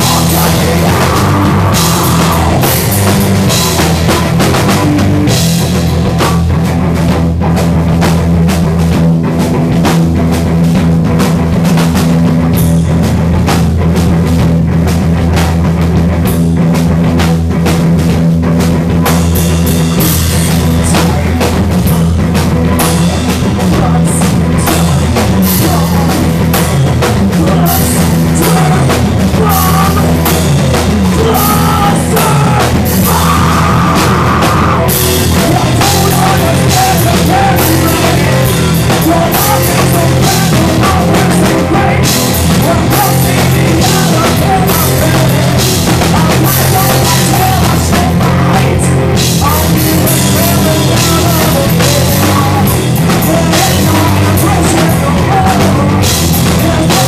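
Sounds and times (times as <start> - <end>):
bass playing heavy riffs: 0.0 - 57.0
distorted electric guitar: 0.0 - 57.0
drum and cymbal hits: 0.0 - 57.0.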